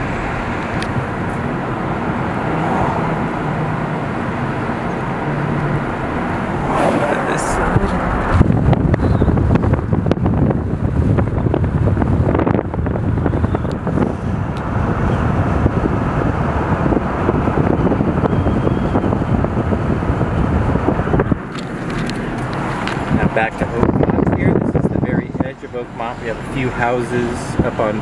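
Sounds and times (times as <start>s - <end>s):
tyre and road noise: 0.0s - 28.0s
wind buffeting microphone: 0.0s - 28.0s.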